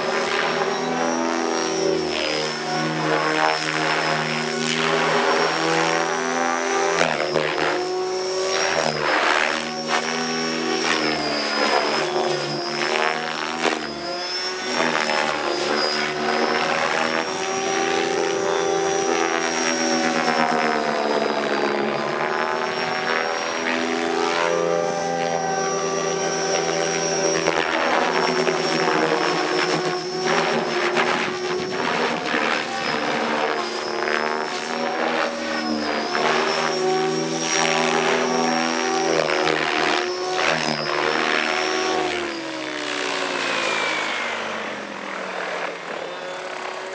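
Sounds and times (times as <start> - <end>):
rc helicopter whine and rotor: 0.0 - 46.9.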